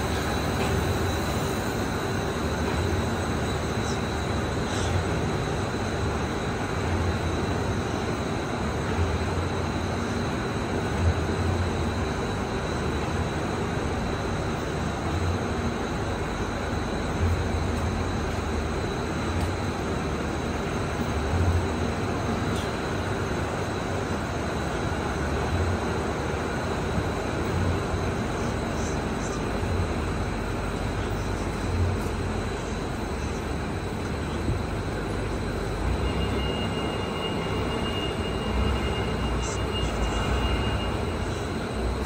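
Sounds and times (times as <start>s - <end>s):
high-pitched whine: 0.0s - 42.0s
machine motors and rollers droning: 0.0s - 42.0s.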